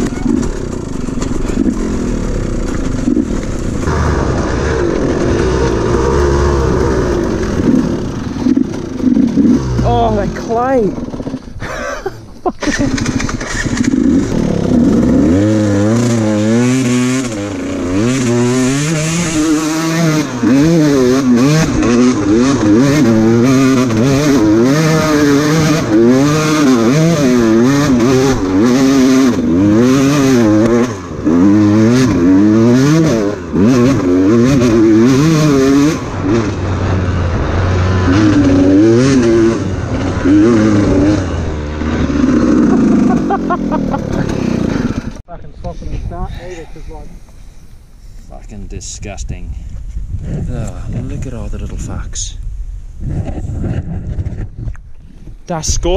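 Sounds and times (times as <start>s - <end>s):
dirt bike engine revving: 0.0s - 45.3s.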